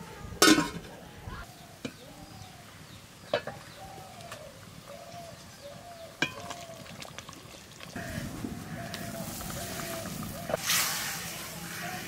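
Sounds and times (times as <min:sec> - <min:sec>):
bird calling: 0:00.0 - 0:10.6.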